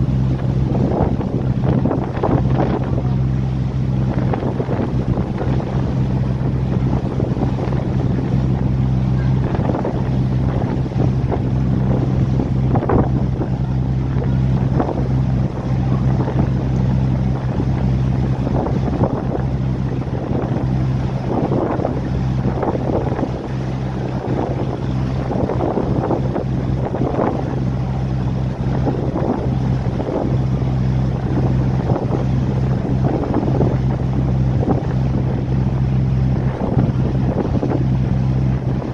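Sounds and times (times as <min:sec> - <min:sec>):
boat engine drone: 0:00.0 - 0:38.9
water splashing against hull: 0:00.0 - 0:38.9
wind buffeting microphone: 0:00.0 - 0:38.9.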